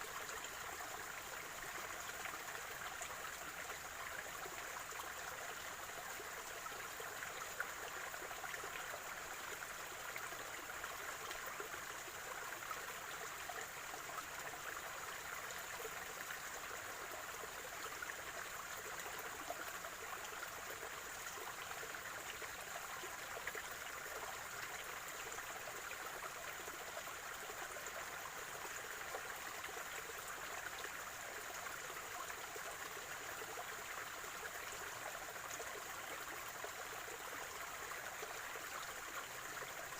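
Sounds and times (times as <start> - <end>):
stream water gurgling over stones: 0.0 - 39.9.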